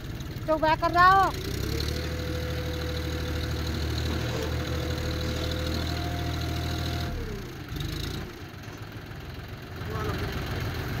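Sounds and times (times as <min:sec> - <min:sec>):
engine whine: 0:00.0 - 0:11.0
tractor diesel engine running: 0:00.0 - 0:11.0.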